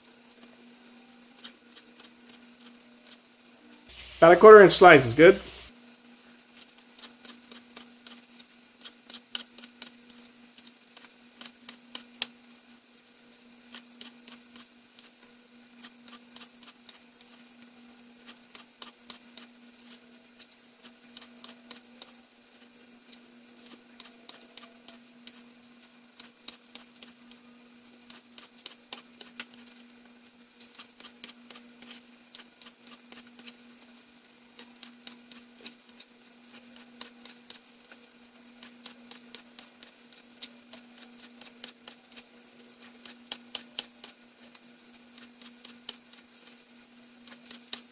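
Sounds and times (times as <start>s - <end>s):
chicken sizzling in a pan: 0.0s - 47.9s.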